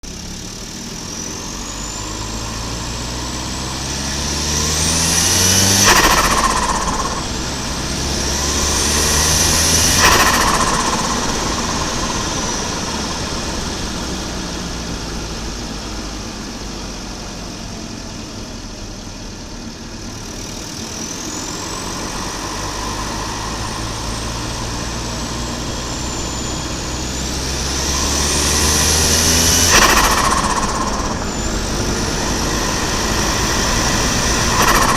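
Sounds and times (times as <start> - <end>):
car engine accelerating hard: 0.0 - 34.9
rising turbo whistle: 1.0 - 15.5, 20.6 - 34.9
turbo flutter: 1.0 - 15.8, 20.2 - 34.9.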